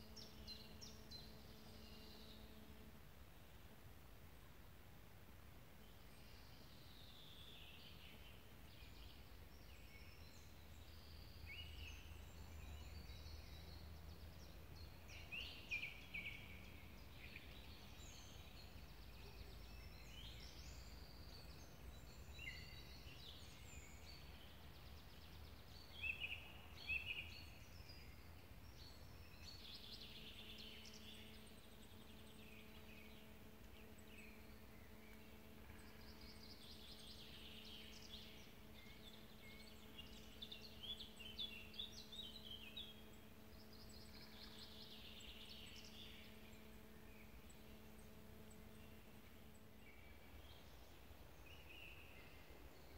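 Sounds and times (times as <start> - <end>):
songbirds singing and calling: 0.0 - 3.8, 5.6 - 52.9
low droning hum: 0.0 - 52.9.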